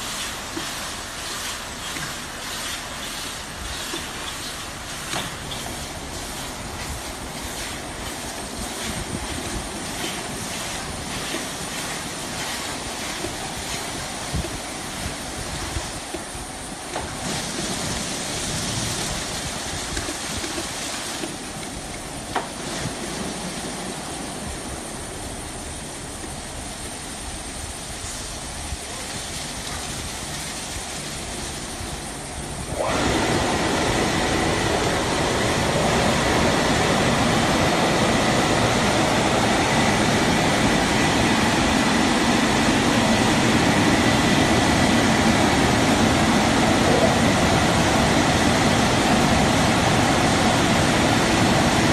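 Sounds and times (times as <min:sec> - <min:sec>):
car wash spraying water: 0:00.0 - 0:51.9.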